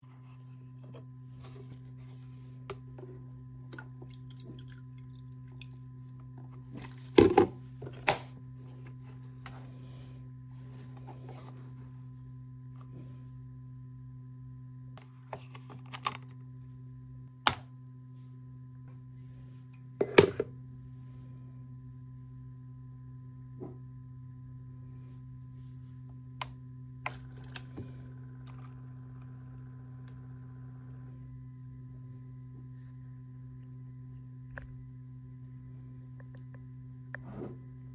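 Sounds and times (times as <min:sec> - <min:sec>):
low electrical hum: 0:00.0 - 0:37.9.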